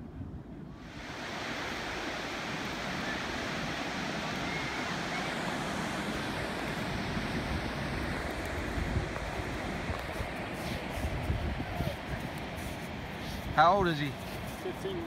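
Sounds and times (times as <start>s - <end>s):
wind rumble on microphone: 0.0s - 15.0s
surf washing on sandy beach: 0.7s - 15.0s.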